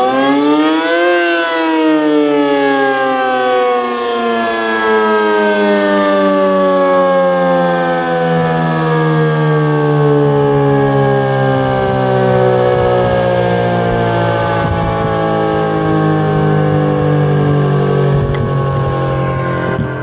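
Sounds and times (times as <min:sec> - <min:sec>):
tornado siren wailing: 0:00.0 - 0:20.0.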